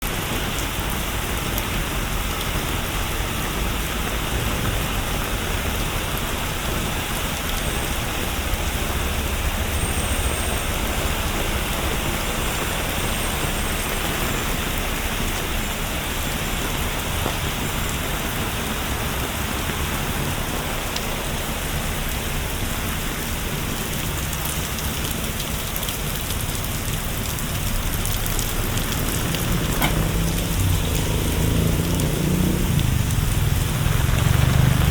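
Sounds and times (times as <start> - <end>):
rain on hard surfaces: 0.0 - 34.9.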